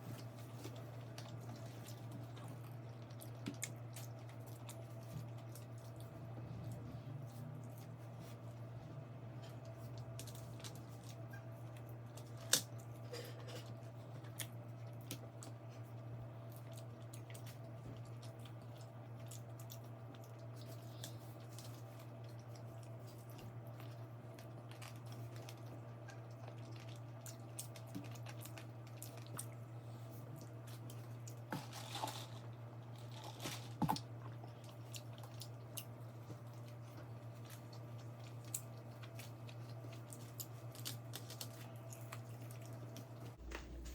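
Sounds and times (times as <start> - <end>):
chewing: 0.0 - 43.4
steady low hum: 0.0 - 43.9.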